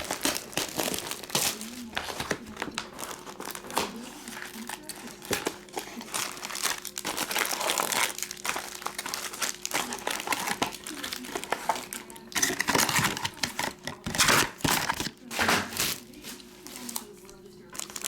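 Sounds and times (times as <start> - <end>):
foil wrappers crinkling: 0.0 - 18.0.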